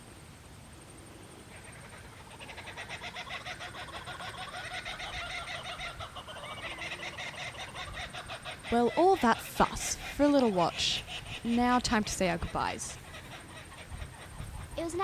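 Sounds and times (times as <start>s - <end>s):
chickens clucking: 1.5s - 15.0s.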